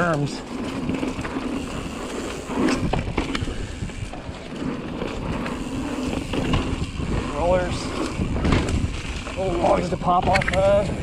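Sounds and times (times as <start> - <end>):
bike clicks and clacks: 0.0 - 11.0
bike tyres rolling on dirt: 0.0 - 11.0.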